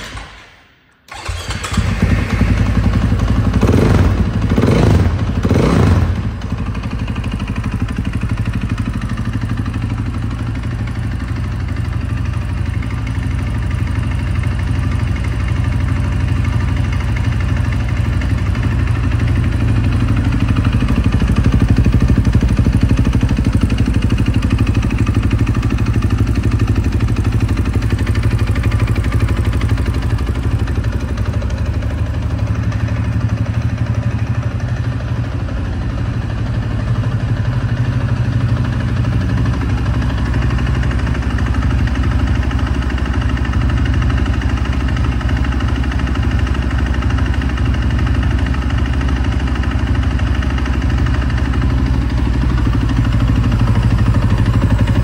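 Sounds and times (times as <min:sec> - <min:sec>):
motorcycle engine idling: 0:01.1 - 0:55.0.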